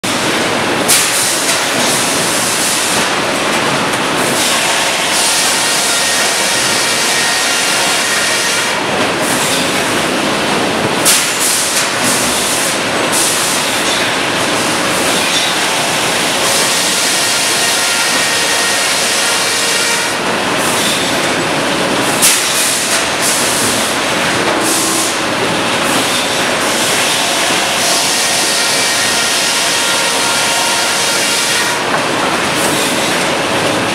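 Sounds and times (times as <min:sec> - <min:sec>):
dense sawmill machinery noise: 0:00.0 - 0:33.9.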